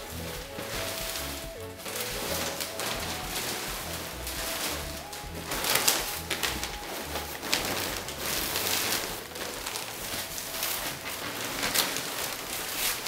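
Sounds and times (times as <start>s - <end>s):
plastic sheeting and paper crinkling: 0.0s - 13.0s.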